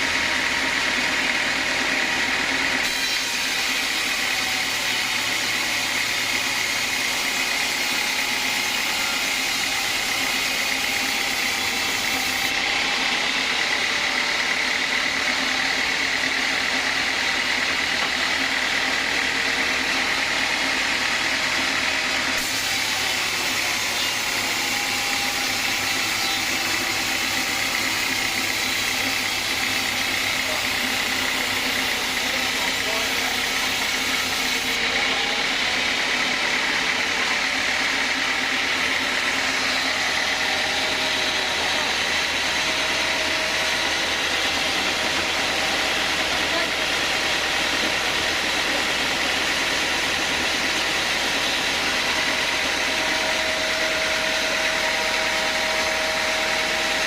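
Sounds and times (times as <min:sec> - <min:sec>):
band saw running with high whine: 0:00.0 - 0:57.0.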